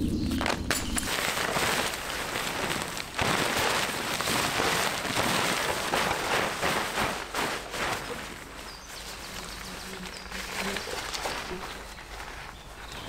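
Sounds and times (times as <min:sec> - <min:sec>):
camping gear rustling and crackling: 0:00.0 - 0:13.0.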